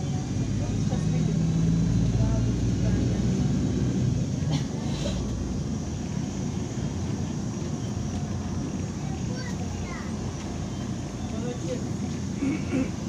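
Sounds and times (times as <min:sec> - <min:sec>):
bus diesel engine rumble: 0:00.0 - 0:13.0
road noise: 0:00.0 - 0:13.0.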